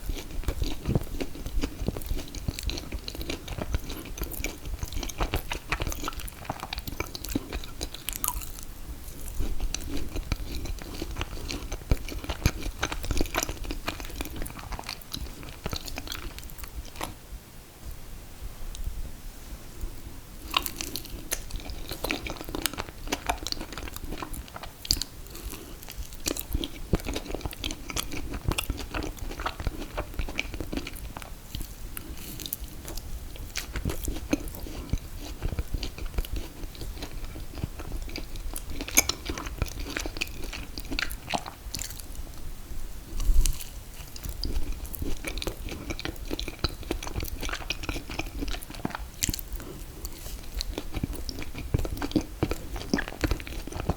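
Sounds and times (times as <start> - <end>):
chewing wet mouth sounds: 0.0 - 17.2, 20.4 - 42.3, 43.1 - 53.9.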